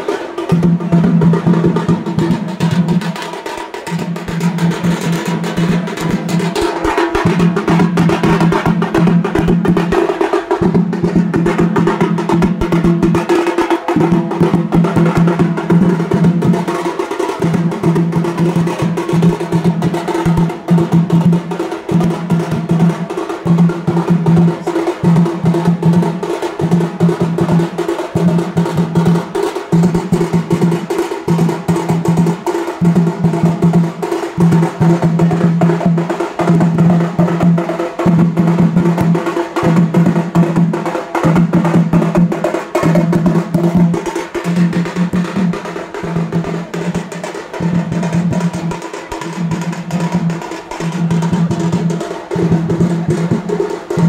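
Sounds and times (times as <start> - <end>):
drum band playing: 0.0 - 54.0.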